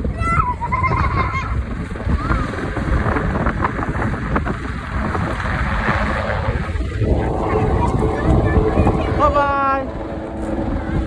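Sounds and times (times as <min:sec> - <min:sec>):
helicopter rumble: 0:00.0 - 0:11.0
wind buffeting microphone: 0:00.0 - 0:11.0.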